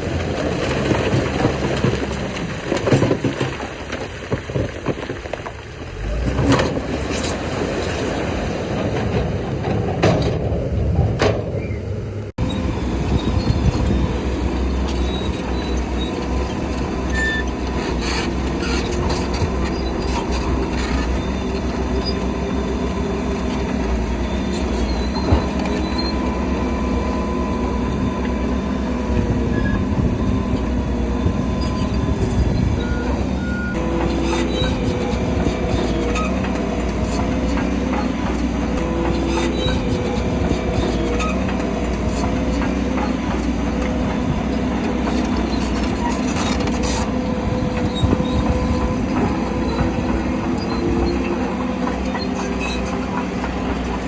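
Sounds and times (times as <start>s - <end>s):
bulldozer diesel engine: 0.0s - 54.0s
steel tracks squealing and clanking: 5.9s - 54.0s.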